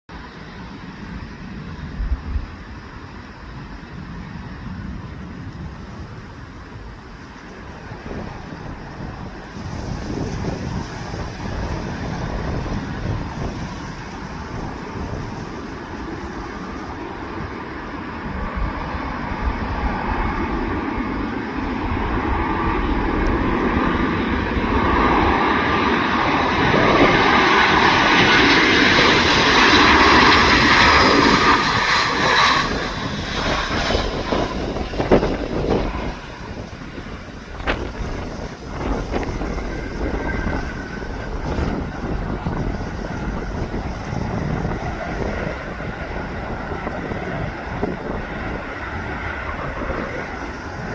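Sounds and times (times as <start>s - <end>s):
jet airliner engines passing: 0.1s - 50.9s
wind rumbling on microphone: 0.1s - 50.9s.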